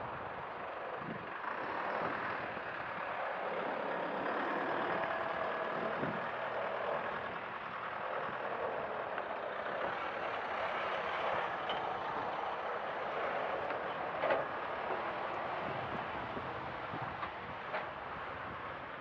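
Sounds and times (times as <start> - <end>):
motor traffic rushing: 0.0 - 19.0.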